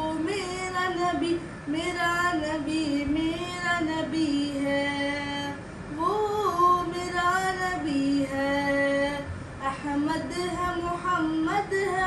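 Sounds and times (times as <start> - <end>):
boy singing unaccompanied: 0.0 - 12.0.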